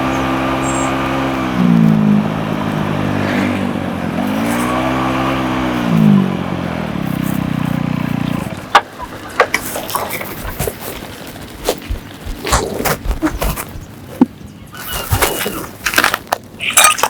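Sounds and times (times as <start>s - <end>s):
engine revving: 0.0s - 14.1s.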